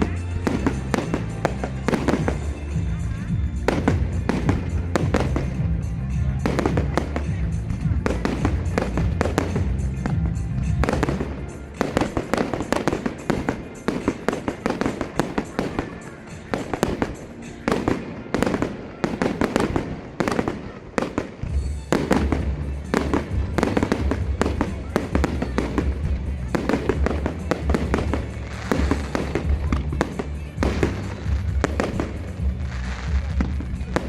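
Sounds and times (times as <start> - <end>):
music with heavy bass: 0.0 - 15.9, 21.5 - 34.0
fireworks banging and crackling: 0.0 - 34.0.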